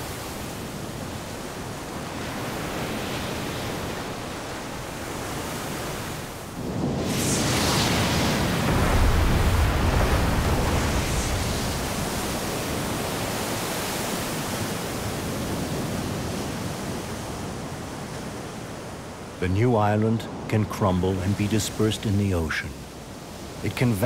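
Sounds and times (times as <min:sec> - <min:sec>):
sea waves breaking on rocks: 0:00.0 - 0:19.3.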